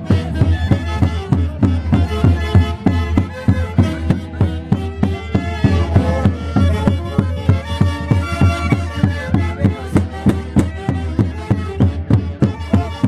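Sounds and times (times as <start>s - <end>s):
band melody: 0.0s - 13.0s
steady drumbeat: 0.0s - 13.0s.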